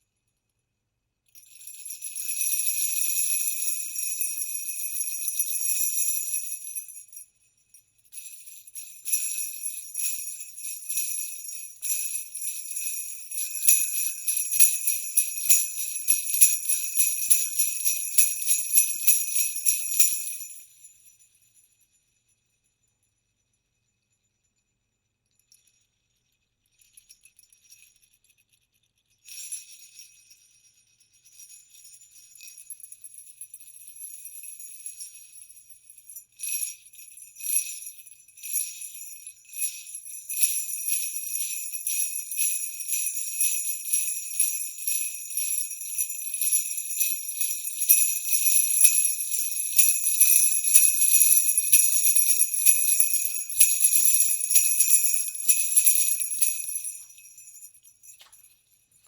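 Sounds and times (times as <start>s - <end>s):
sleigh bells jingling: 1.4s - 7.3s, 8.0s - 21.8s, 29.2s - 59.0s.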